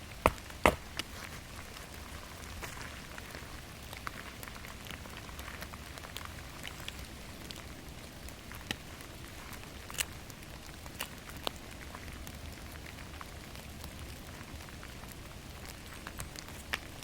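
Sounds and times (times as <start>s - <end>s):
rain falling in a forest: 0.0s - 17.0s.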